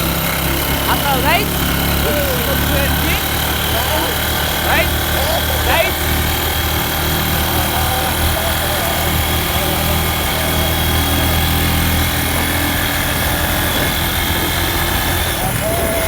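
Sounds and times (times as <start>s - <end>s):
motorcycle engine humming: 0.0s - 16.0s.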